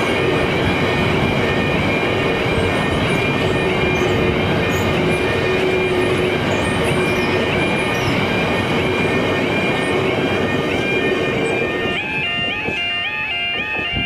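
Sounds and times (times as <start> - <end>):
high-pitched wheel squealing: 0.0 - 14.0
train wheels on rail: 0.0 - 14.0.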